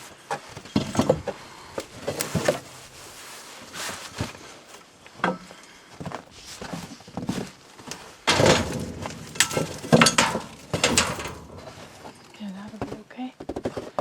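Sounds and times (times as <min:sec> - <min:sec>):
rustling clatter: 0:00.0 - 0:14.0
objects knocking and scraping: 0:00.3 - 0:03.2, 0:05.1 - 0:14.0.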